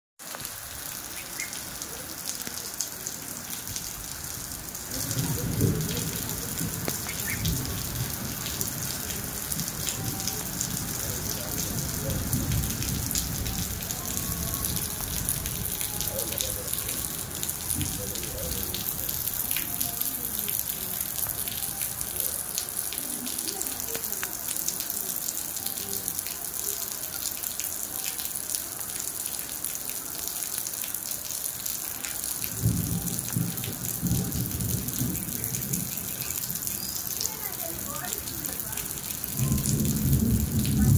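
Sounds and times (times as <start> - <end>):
steady rain falling: 0.2 - 40.9.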